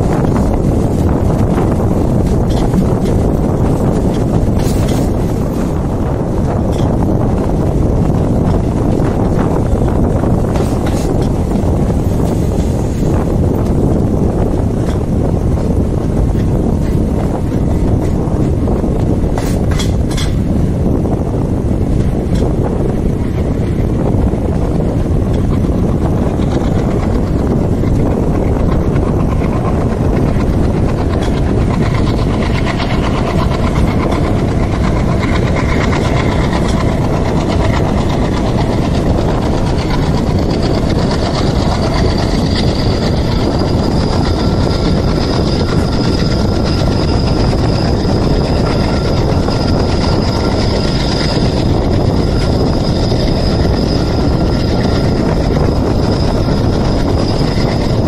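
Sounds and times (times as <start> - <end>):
diesel locomotive chugging: 0.0 - 58.0
train wheels rumbling on track: 0.0 - 58.0.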